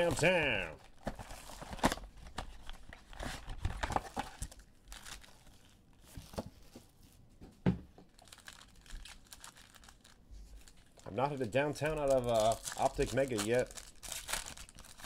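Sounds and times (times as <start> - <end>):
packaging tearing and crinkling: 0.0 - 5.8, 8.1 - 15.0.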